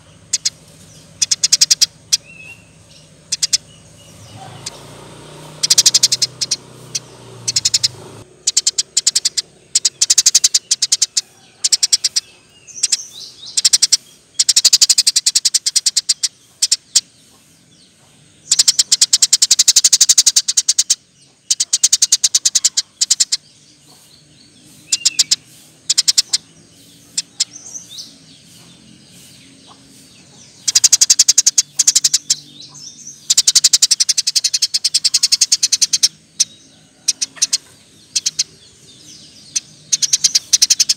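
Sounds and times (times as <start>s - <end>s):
sparrow chirping in rattling runs: 0.0s - 40.9s.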